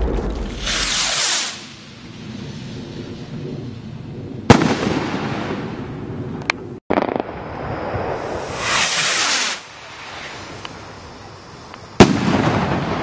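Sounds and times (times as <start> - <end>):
firework bangs: 0.0 - 3.7, 4.4 - 6.3, 6.9 - 10.8, 11.9 - 13.0
firework crackling burst: 0.0 - 6.0, 6.9 - 11.1, 11.9 - 13.0.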